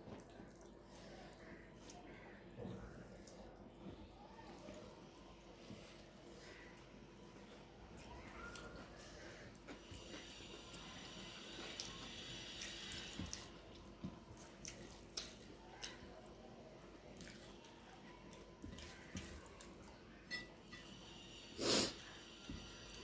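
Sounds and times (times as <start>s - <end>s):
people chewing food: 0.0s - 23.0s.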